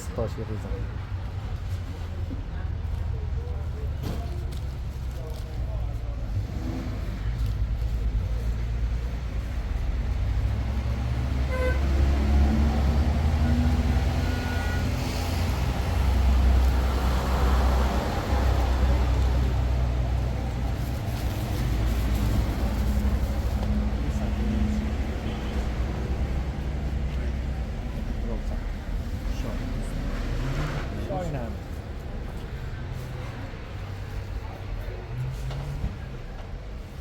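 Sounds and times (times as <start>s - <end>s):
passing traffic rush: 0.0s - 37.0s
vehicle engine and road rumble: 0.0s - 37.0s.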